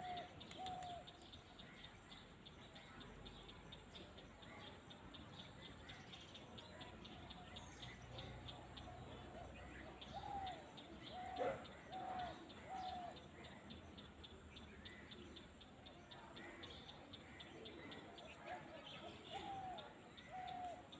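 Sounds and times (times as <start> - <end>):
birds calling: 3.9 - 20.9.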